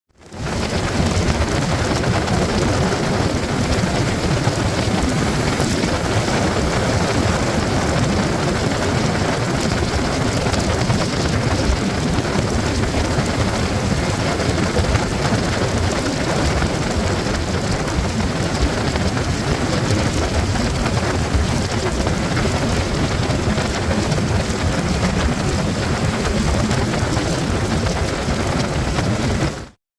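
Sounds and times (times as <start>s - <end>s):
wind rushing over microphone: 0.2s - 29.8s.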